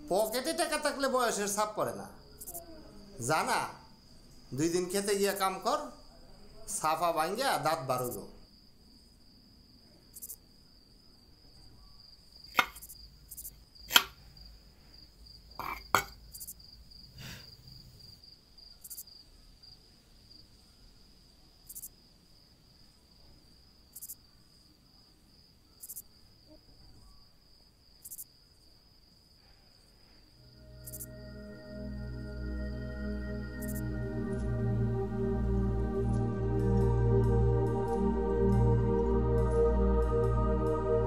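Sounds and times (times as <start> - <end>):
crickets trilling: 0.0 - 36.1.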